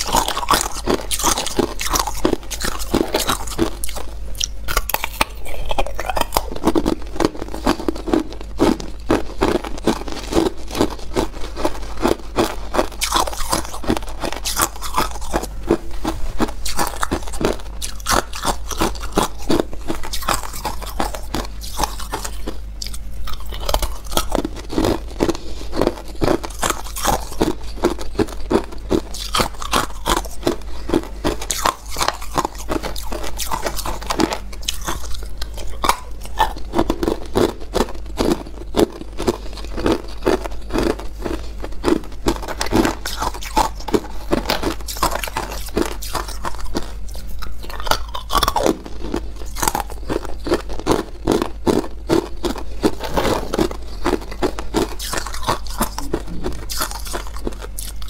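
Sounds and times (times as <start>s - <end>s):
ice cubes crunched in mouth: 0.0s - 58.0s.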